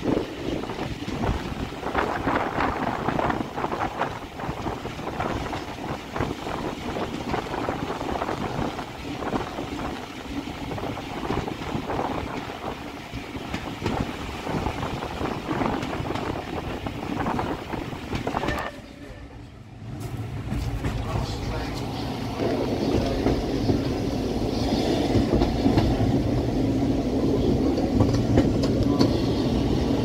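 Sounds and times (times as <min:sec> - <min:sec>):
low train rumble: 0:00.0 - 0:30.0
train rattling and rushing: 0:00.0 - 0:30.0.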